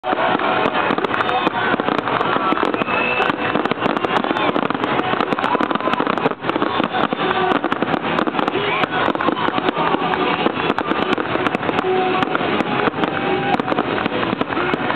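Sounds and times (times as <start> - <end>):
fireworks crackling and popping: 0.0 - 14.9
people's voices: 0.0 - 14.9.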